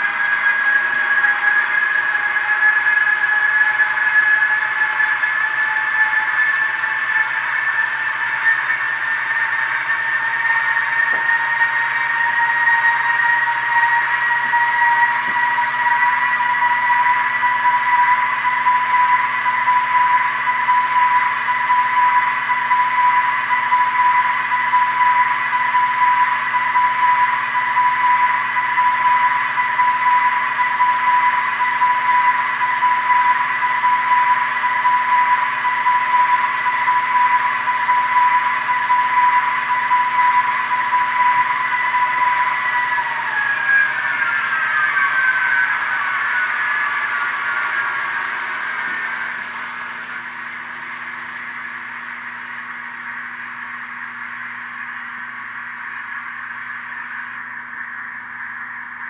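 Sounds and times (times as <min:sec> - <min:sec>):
electric train traction whine: 0:00.0 - 0:59.0.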